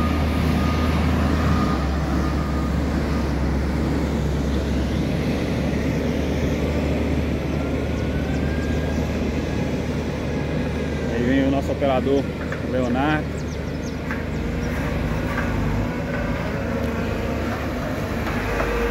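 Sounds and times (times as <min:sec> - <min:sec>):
diesel engine rumbling: 0:00.0 - 0:18.9.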